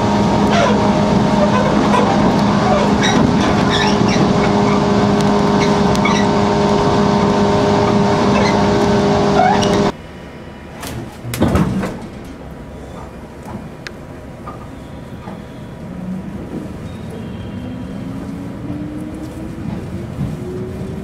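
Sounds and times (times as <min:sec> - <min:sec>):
train traction motors humming: 0:00.0 - 0:21.0
wheel and rail noise: 0:00.0 - 0:21.0.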